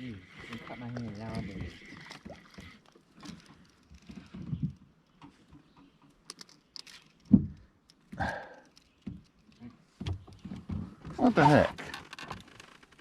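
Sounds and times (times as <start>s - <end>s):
small clicks and taps of gear: 0.4s - 13.0s.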